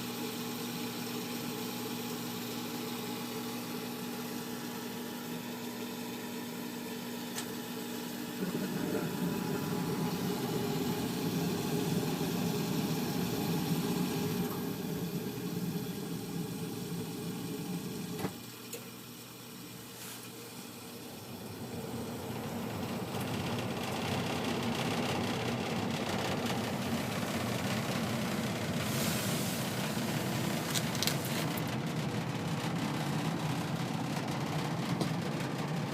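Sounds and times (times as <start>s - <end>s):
furnace hum and rushing: 0.0s - 35.9s.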